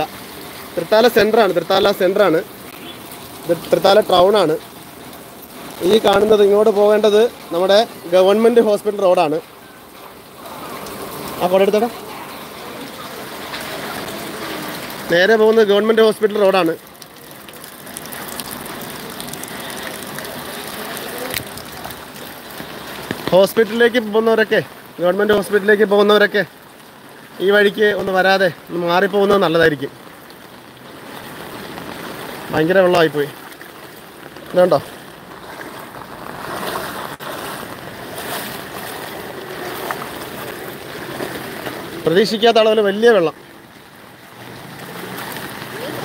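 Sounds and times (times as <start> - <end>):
floodwater rushing and splashing: 0.0 - 46.0
rain on water and hard surfaces: 0.0 - 46.0.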